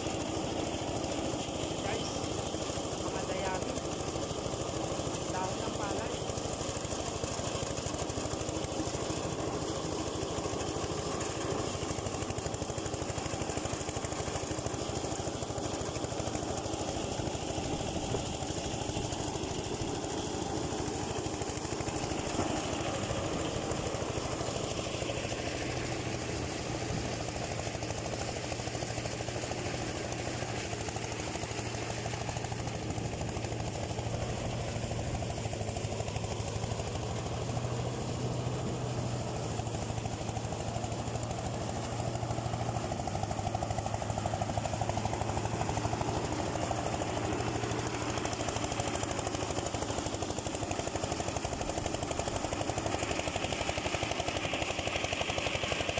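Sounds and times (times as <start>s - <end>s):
rice thresher running: 0.0s - 55.9s.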